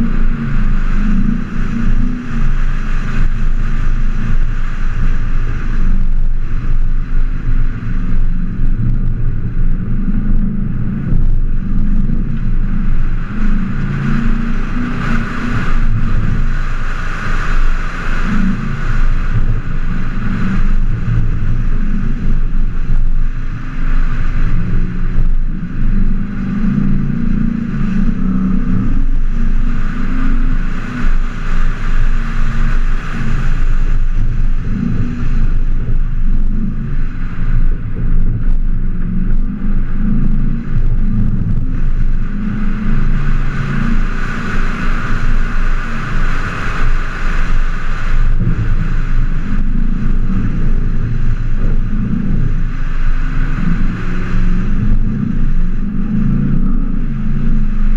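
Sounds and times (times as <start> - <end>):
off-road vehicle engine running: 0.0 - 57.9
wind rush: 0.0 - 57.9.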